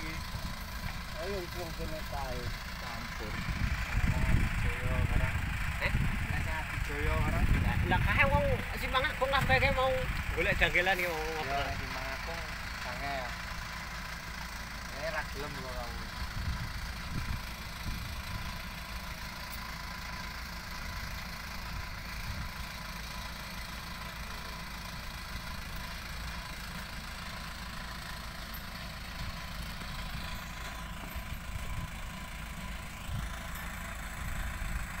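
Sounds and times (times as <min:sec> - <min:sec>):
engines idling: 0:00.0 - 0:35.0.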